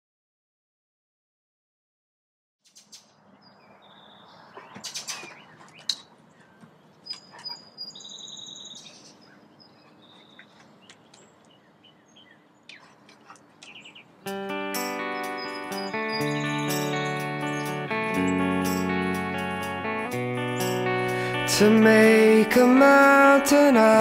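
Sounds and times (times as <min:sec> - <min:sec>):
small birds chirping: 0:02.6 - 0:24.0.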